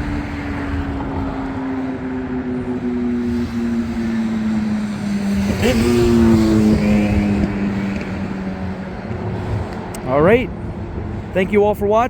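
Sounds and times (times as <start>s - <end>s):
passing vehicle engine hum: 0.0s - 12.0s.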